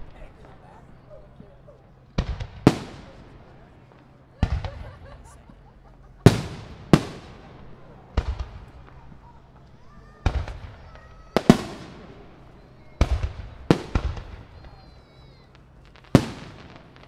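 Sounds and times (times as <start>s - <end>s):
firework booms with rolling echo: 0.0s - 17.0s.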